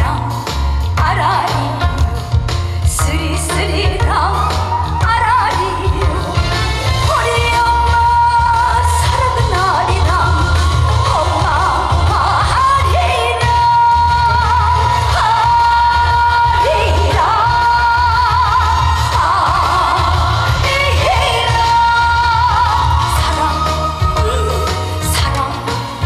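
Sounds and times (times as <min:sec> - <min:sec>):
band accompaniment: 0:00.0 - 0:26.0
woman singing: 0:00.0 - 0:26.0.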